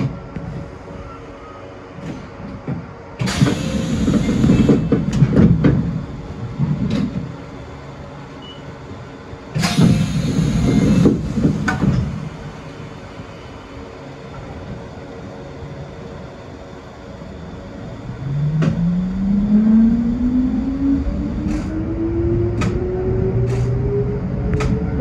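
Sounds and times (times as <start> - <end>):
electric train running: 0.0 - 25.0.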